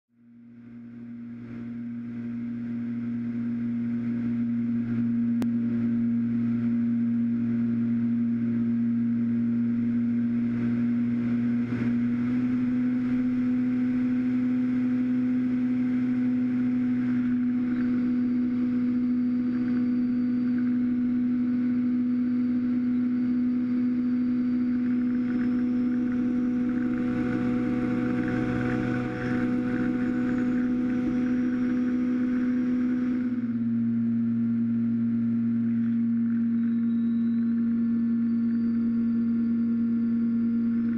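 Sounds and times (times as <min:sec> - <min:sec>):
electric motor and propeller drone: 0:00.9 - 0:40.9.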